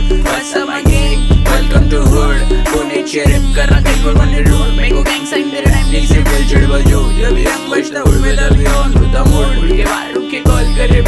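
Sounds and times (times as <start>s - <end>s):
rapping over a beat: 0.0s - 11.0s.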